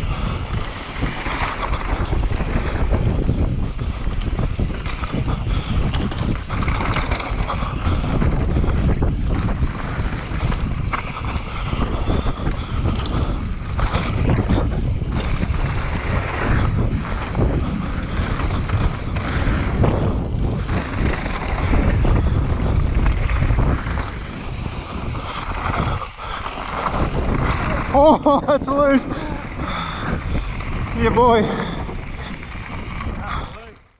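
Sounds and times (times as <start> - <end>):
bike clattering over bumps: 0.0 - 33.4
tyres skidding over dirt: 0.0 - 33.4
wind rushing over microphone: 0.0 - 33.9.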